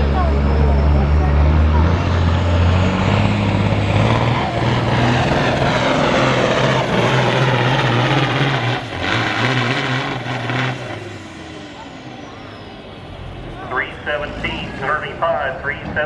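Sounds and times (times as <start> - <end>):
truck diesel engine under load: 0.0 - 16.0.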